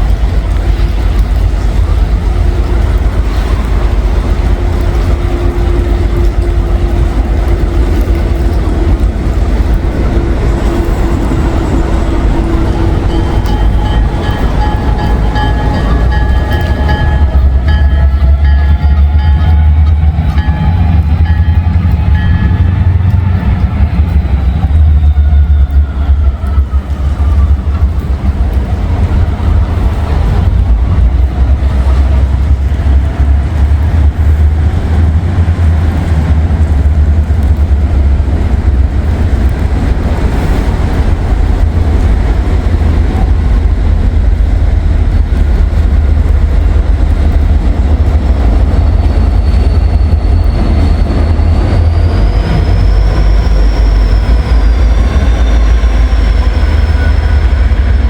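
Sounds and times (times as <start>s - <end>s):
locomotive low rumble: 0.0s - 58.0s.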